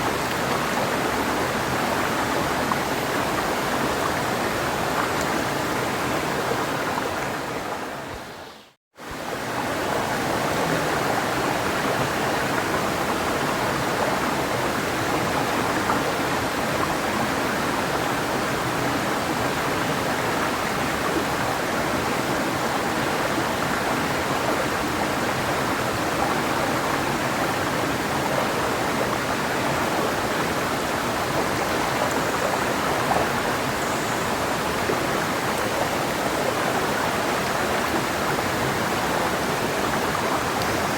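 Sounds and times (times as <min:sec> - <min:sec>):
river flowing: 0:00.0 - 0:40.9.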